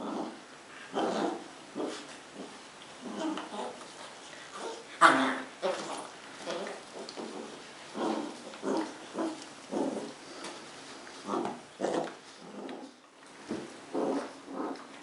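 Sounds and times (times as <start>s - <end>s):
puppies growling: 0.0s - 15.0s.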